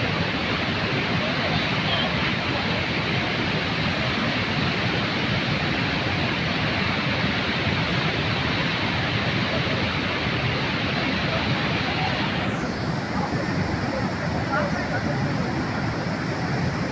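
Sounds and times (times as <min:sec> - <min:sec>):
fast-flowing floodwater rushing: 0:00.0 - 0:16.9.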